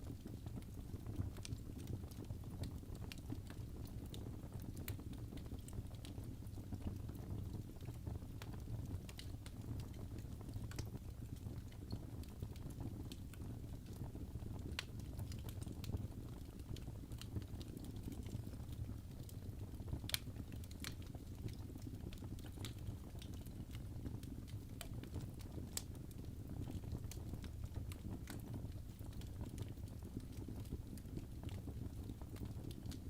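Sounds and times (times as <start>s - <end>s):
low rumble of flame: 0.0s - 33.0s
wood fire crackling and popping: 0.0s - 33.0s.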